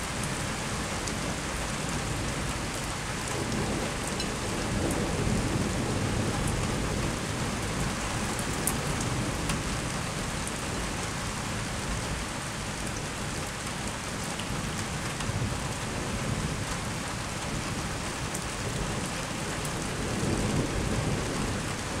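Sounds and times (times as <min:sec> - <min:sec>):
rain falling on roofs: 0:00.0 - 0:22.0.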